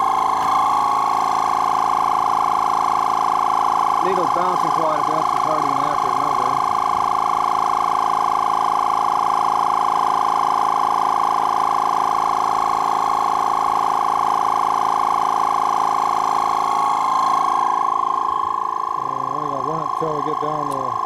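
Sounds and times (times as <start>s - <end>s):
tire inflator mechanical whine: 0.0s - 21.0s.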